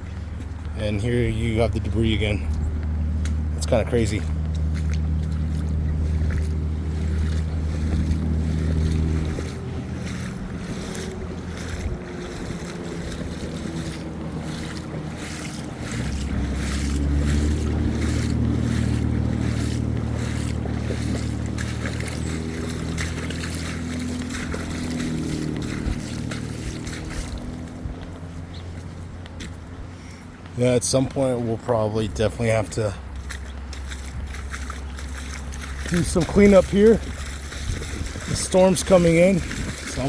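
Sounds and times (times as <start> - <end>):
wind buffeting microphone: 0.0 - 30.5, 33.0 - 40.0
rushing creek water: 0.0 - 40.0.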